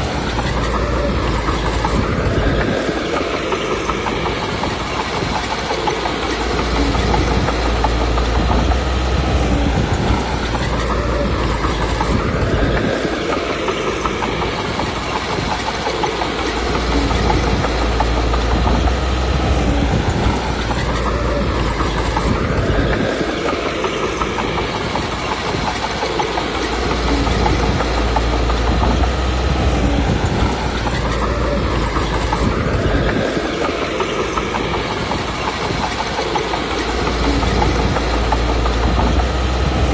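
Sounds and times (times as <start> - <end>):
bulldozer diesel engine under load: 0.0 - 39.9
track clatter: 0.0 - 39.9.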